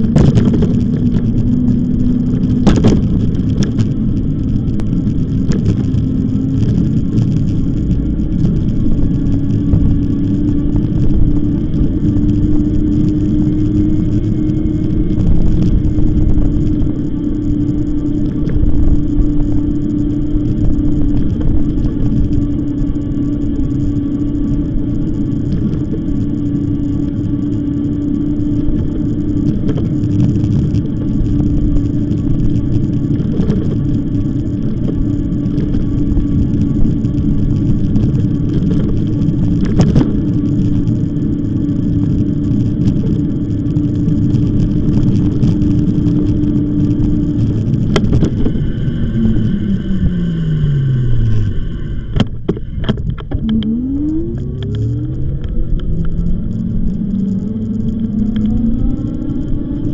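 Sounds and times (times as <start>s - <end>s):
road rumble: 0.0s - 59.9s
steady hum: 0.0s - 59.9s
wind on microphone: 0.0s - 59.9s.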